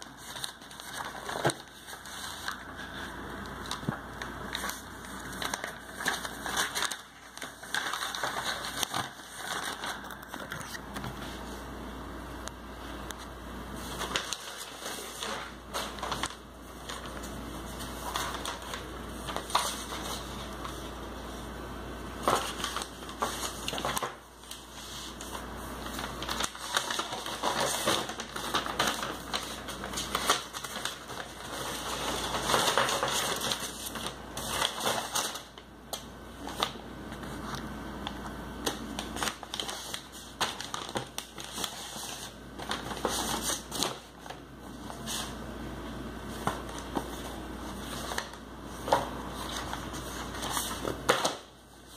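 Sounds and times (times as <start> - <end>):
newspaper crinkling: 0.0 - 11.7, 13.1 - 45.5, 46.1 - 51.9.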